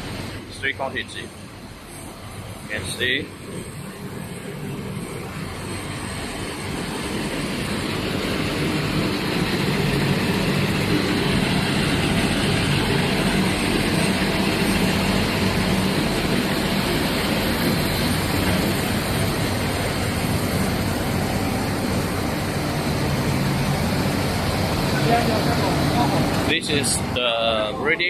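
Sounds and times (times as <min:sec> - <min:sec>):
braiding machines running: 0:00.0 - 0:28.0.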